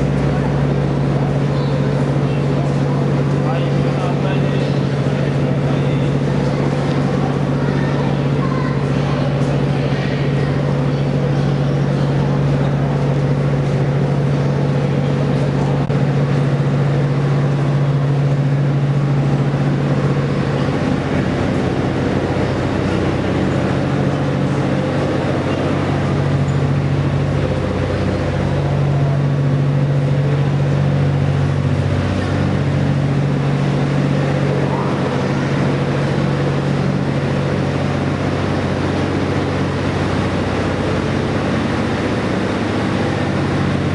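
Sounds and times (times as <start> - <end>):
low drone: 0.0 - 43.9
train mechanical hum: 0.0 - 43.9.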